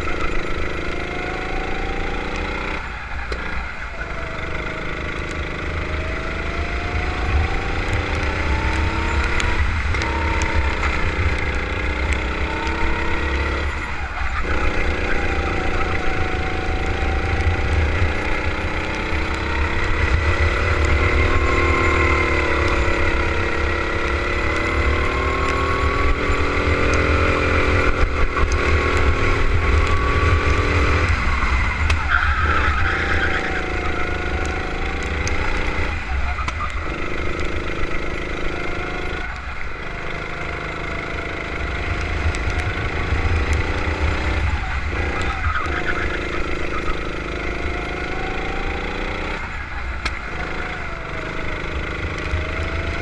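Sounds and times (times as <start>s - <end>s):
kart engine running hard: 0.0s - 53.0s.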